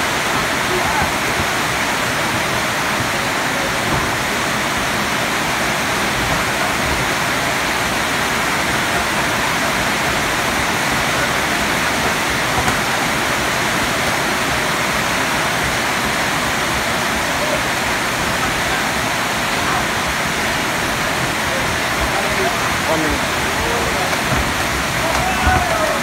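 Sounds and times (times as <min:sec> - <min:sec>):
loud steady rushing noise: 0:00.0 - 0:26.0.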